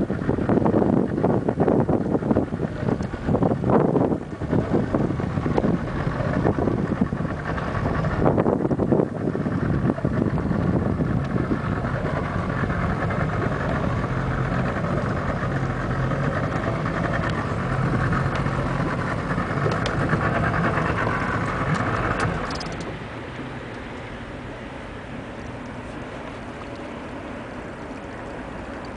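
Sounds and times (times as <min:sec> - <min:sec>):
engine droning: 0:00.0 - 0:28.9
wind buffeting microphone: 0:00.0 - 0:28.9.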